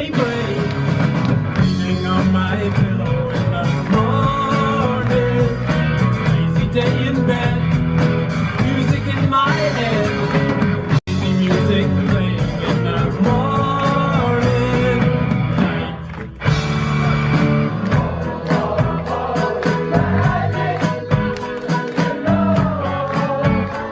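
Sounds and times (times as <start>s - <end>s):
rock music with singing: 0.0s - 23.9s.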